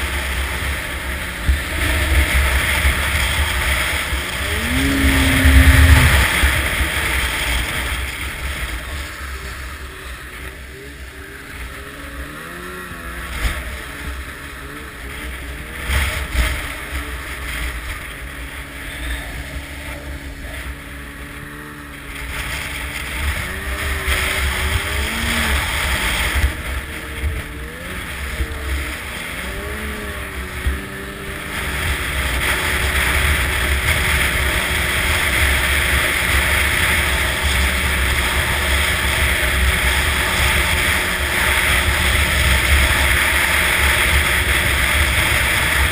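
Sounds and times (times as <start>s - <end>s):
rushing noise: 0.0s - 45.9s
snowmobile engine running: 0.0s - 45.9s.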